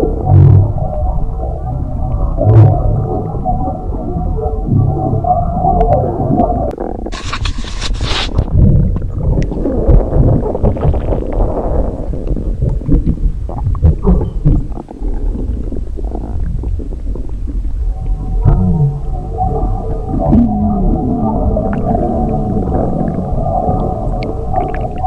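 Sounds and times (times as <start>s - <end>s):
stomach rumbling gurgles: 0.0s - 25.0s.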